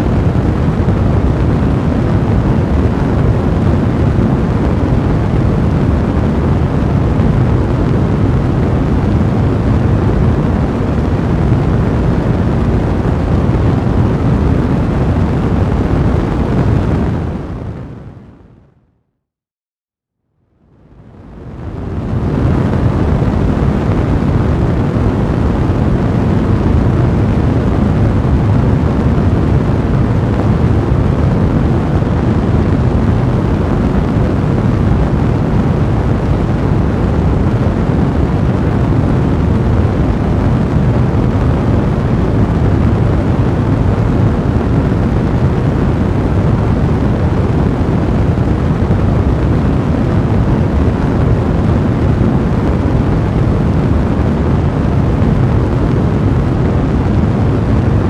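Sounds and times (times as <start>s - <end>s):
roar of blazing fire: 0.0s - 18.3s, 20.9s - 58.0s.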